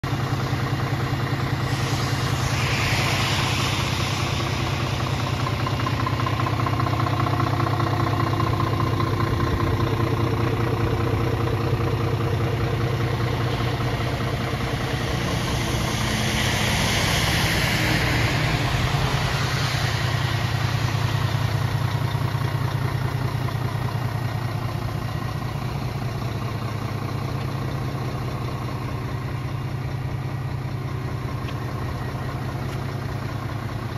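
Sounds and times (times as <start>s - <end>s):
diesel truck engine idling: 0.0s - 33.9s
hiss: 0.1s - 33.9s.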